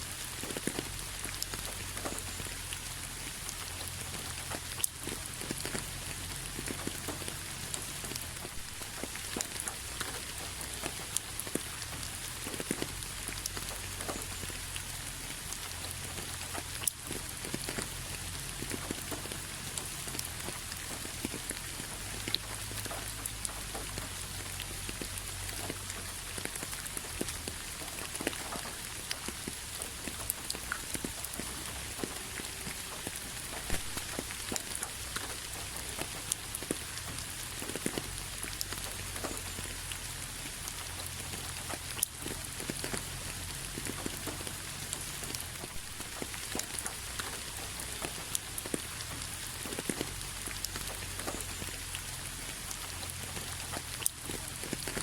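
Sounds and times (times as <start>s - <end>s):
raindrop ticks: 0.0s - 55.0s
steady rain falling: 0.0s - 55.0s.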